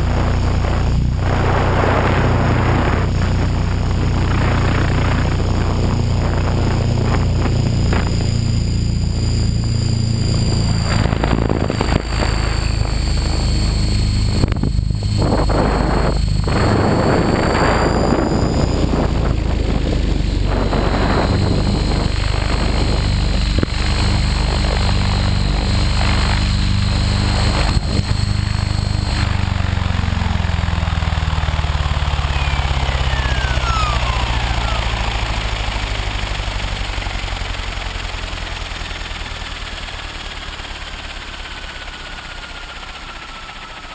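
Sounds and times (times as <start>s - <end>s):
model helicopter rotor whine: 0.0s - 43.9s.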